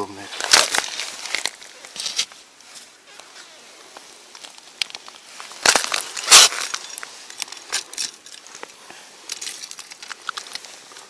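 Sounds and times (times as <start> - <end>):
ice crunching: 0.0 - 11.0.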